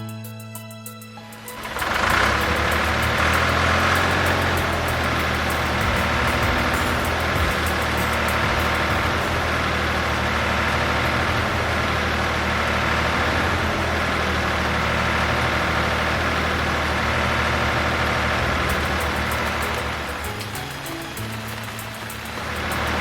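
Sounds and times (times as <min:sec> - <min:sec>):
heavy vehicle engine rumbling: 0:01.2 - 0:23.0.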